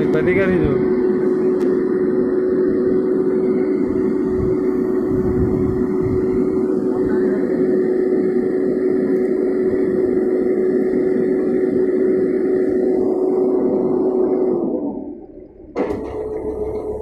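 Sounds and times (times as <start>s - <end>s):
auger whine: 0.0s - 17.0s
combine harvester engine drone: 0.0s - 17.0s.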